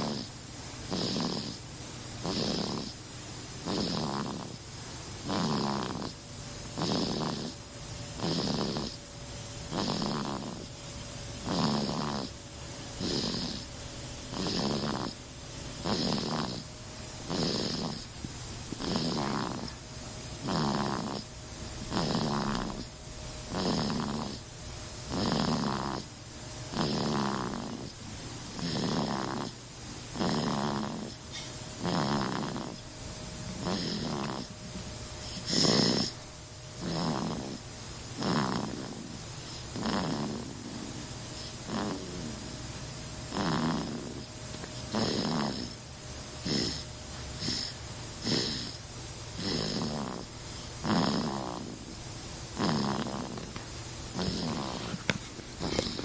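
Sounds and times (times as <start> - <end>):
baby snoring: 0.0 - 9.0, 9.6 - 10.7, 11.4 - 56.0.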